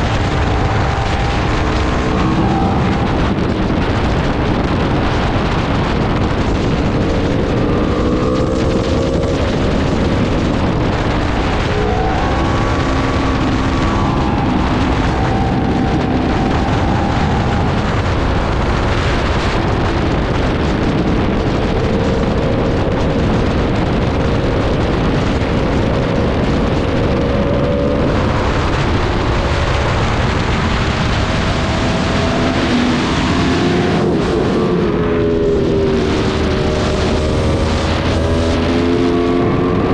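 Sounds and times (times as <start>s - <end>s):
sport bike engine revving: 0.0s - 5.5s, 6.1s - 39.9s
wind noise on microphone: 0.0s - 39.9s.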